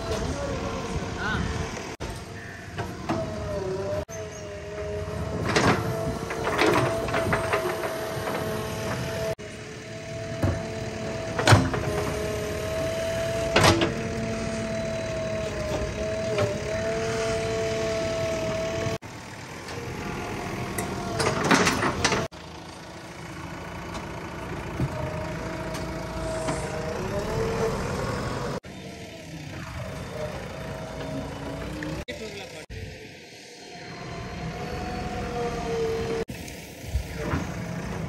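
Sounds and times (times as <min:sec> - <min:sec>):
diesel engine running with whine: 0:00.0 - 0:38.0.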